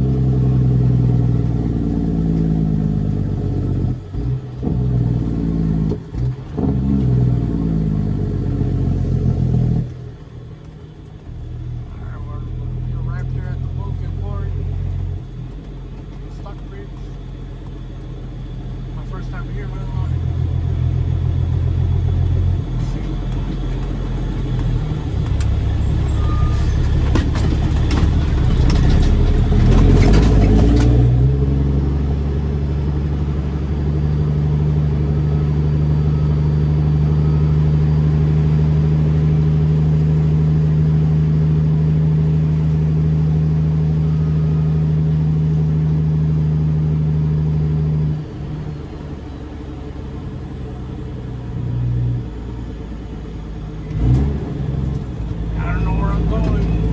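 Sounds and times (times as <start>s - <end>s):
diesel truck engine: 0.0s - 56.9s
engine rattling and knocking: 9.2s - 56.9s.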